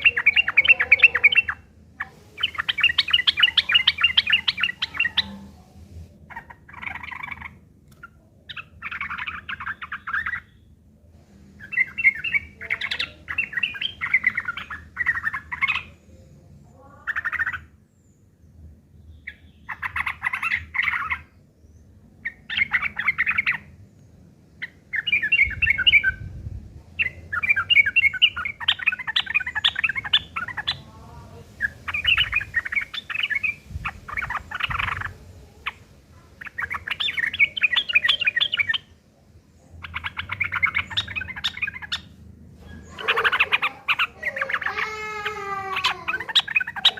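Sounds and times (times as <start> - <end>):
birds chattering harshly: 0.0 - 46.9.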